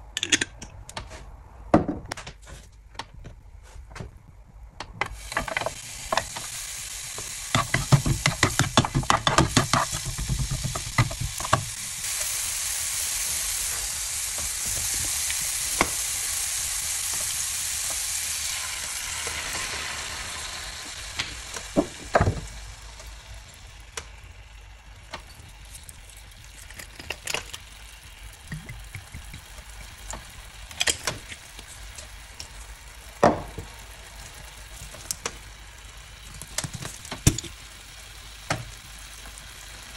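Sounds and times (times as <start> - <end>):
ginger sizzling in hot oil: 5.1 - 39.9.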